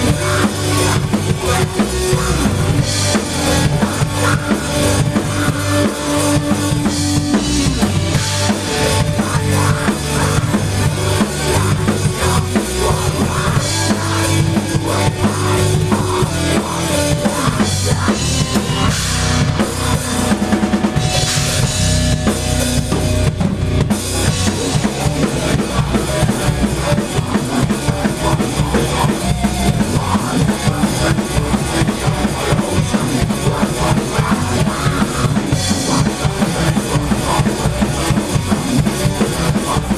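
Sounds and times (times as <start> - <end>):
band playing loudly: 0.0 - 39.9
drum kit beat: 0.0 - 39.9.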